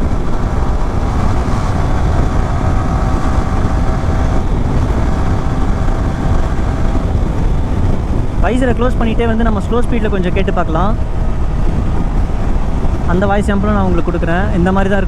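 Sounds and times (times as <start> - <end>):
faint motorcycle engine drone: 0.0 - 15.0
wind and road noise rumble: 0.0 - 15.0.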